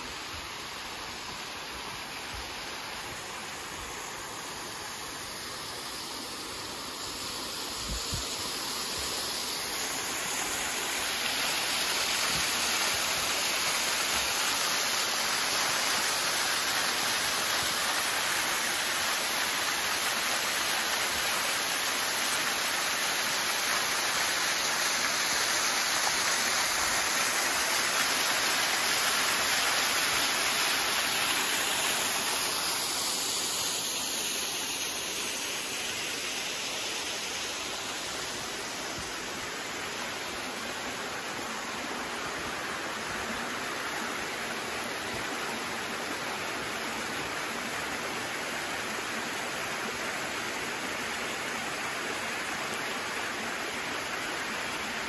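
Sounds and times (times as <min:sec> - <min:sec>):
waterfall rushing over rock: 0:00.0 - 0:55.0.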